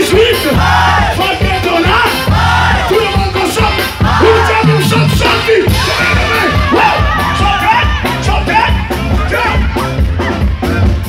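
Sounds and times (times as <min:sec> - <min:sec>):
crowd voices: 0:00.0 - 0:11.0
loud party music with beat: 0:00.0 - 0:11.0.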